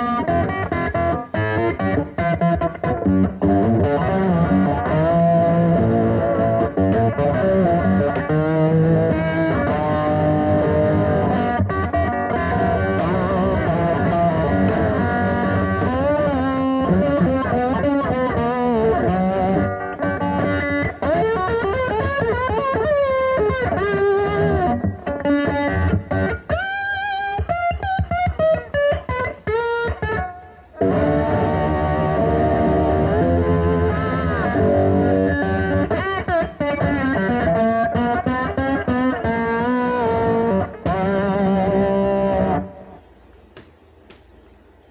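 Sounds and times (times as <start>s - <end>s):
overdriven electric slide guitar: 0.0s - 43.2s.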